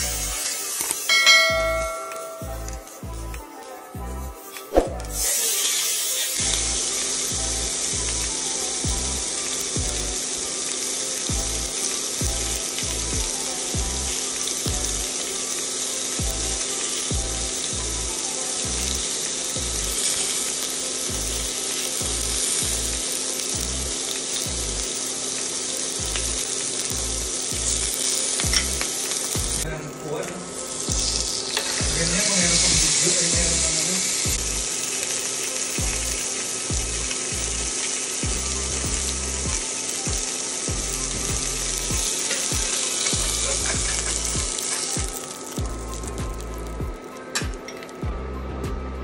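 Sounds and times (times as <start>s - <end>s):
background music with low beat: 0.0s - 5.6s, 6.3s - 49.0s
fish sizzling in a grill pan: 0.0s - 48.0s.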